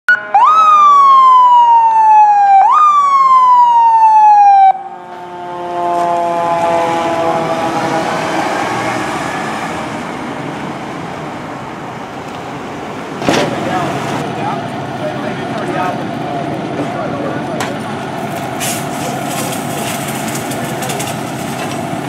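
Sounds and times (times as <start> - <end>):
fire engine siren: 0.1 - 22.0
truck engine and road noise: 0.1 - 22.0.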